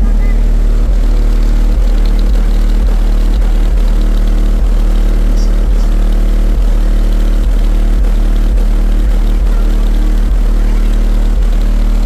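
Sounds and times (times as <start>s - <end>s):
deep bass drone from subwoofers: 0.0s - 12.0s.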